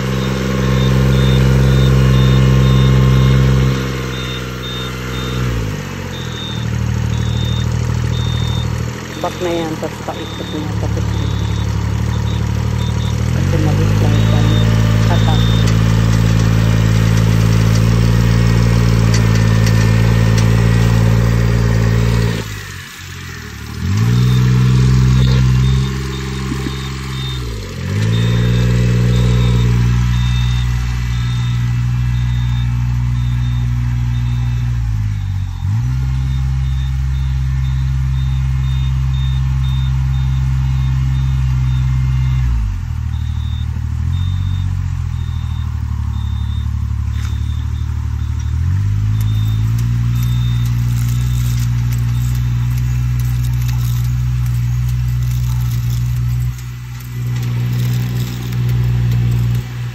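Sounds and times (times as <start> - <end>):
farm machine engine running: 0.0 - 59.9.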